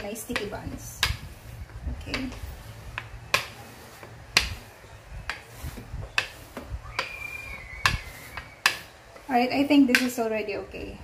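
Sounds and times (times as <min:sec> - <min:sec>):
rolling pin clicking and knocking: 0:00.0 - 0:10.3.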